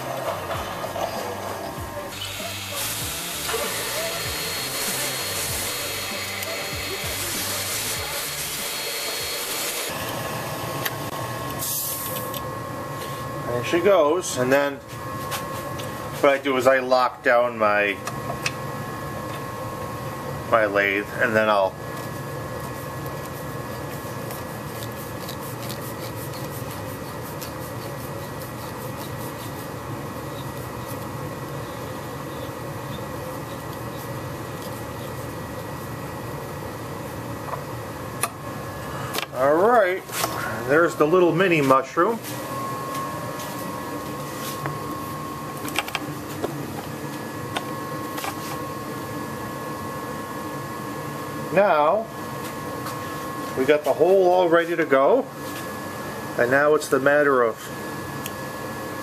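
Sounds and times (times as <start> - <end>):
high-pitched whine: 0.0 - 25.4, 27.7 - 59.0
machine hum: 0.0 - 59.0.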